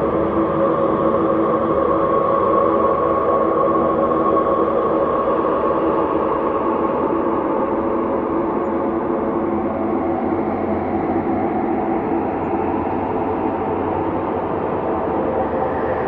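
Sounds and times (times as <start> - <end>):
ambient space drone: 0.0 - 16.0.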